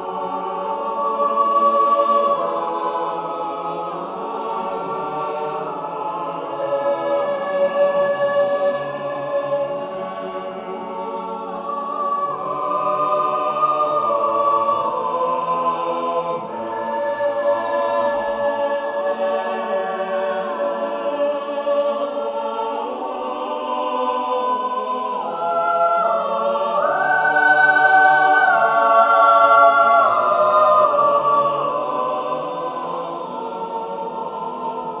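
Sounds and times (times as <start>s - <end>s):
choir singing slow chords: 0.0s - 35.0s.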